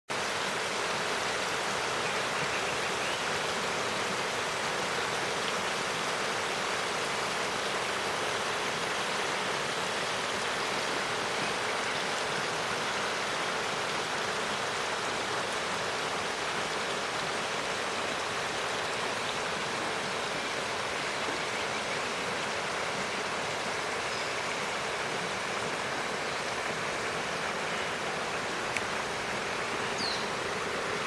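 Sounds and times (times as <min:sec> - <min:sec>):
river water rushing over stones: 0:00.1 - 0:31.0.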